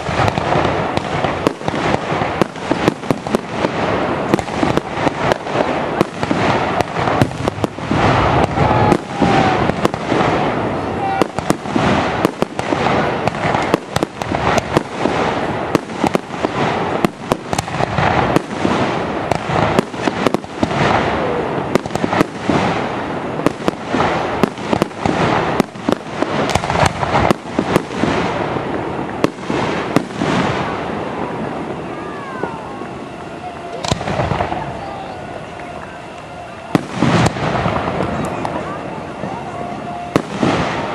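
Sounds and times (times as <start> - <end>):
fireworks bursting with sharp bangs: 0.0 - 40.9.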